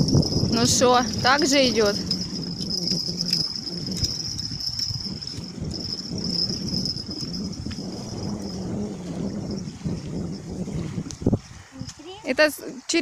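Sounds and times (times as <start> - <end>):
insects chirring: 0.0 - 10.7
wind rushing: 0.0 - 11.9.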